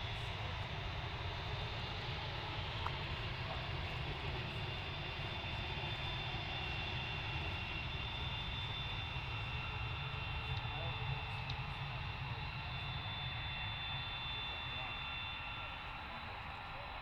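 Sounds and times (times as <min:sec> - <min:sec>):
jet engines whining and rumbling: 0:00.0 - 0:17.0.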